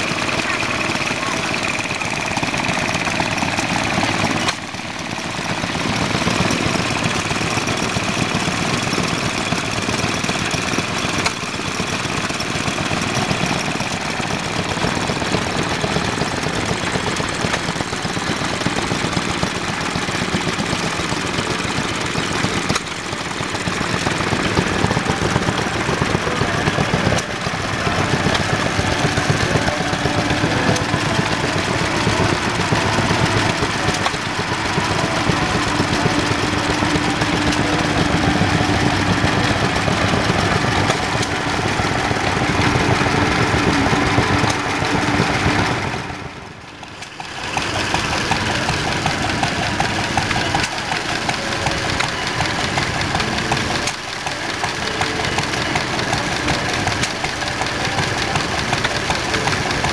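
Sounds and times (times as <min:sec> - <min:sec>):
small engines puttering: 0:00.0 - 0:59.9.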